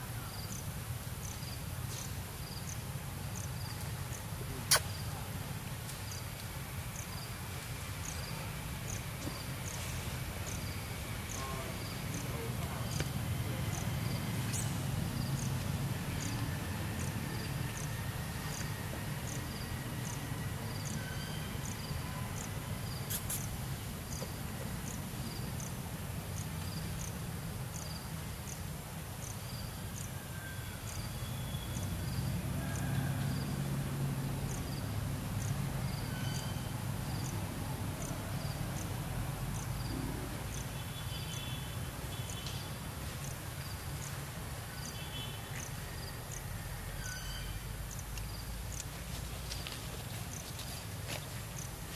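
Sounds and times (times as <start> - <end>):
insect chirping: 0.0 - 51.9.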